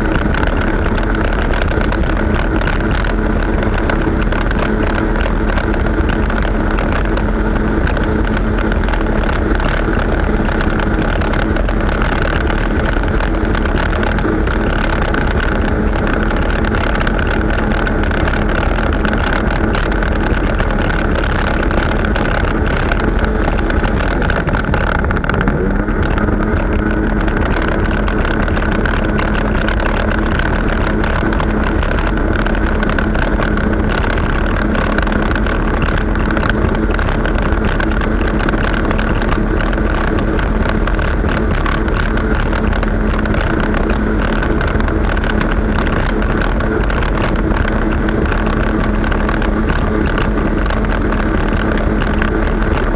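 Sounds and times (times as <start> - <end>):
jet ski engine running: 0.0 - 52.9.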